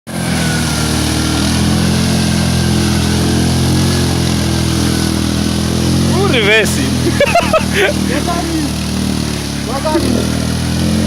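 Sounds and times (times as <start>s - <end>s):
atv engine running steadily: 0.1s - 11.0s.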